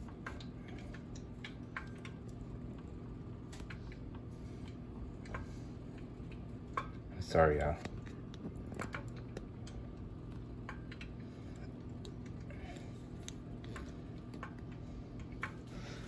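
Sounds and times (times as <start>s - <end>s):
hot oil ticking and popping: 0.0s - 16.0s
steady low hum: 0.0s - 16.0s.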